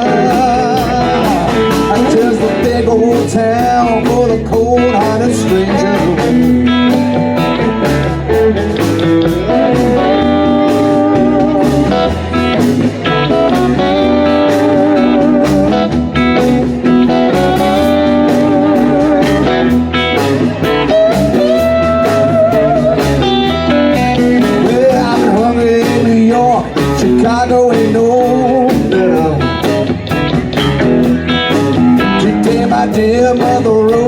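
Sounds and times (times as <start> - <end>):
lead guitar: 0.0 - 34.0
live blues band playing: 0.0 - 34.0.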